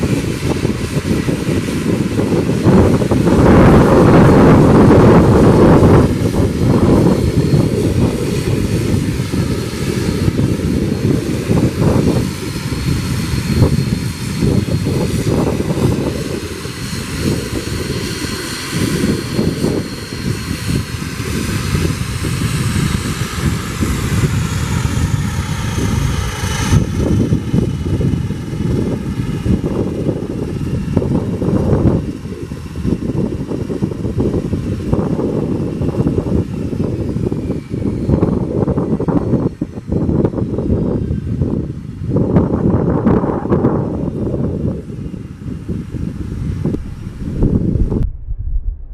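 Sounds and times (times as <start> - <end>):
turboprop engines whining: 0.0 - 48.9
wind rumble on microphone: 0.0 - 48.9.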